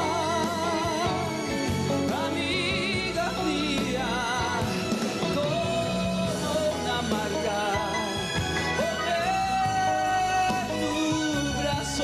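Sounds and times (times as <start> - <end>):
man singing with vibrato: 0.0 - 12.0
orchestra playing slow ballad: 0.0 - 12.0.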